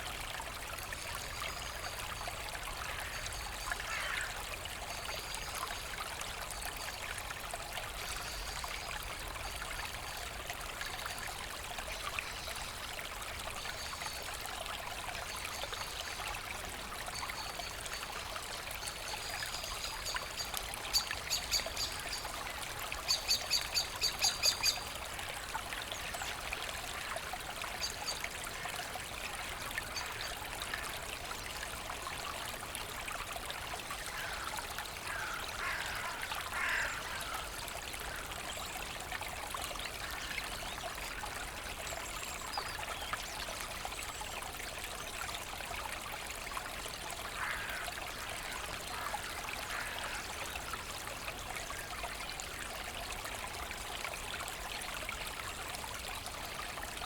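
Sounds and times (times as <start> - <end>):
brook babbling over stones: 0.0 - 57.0.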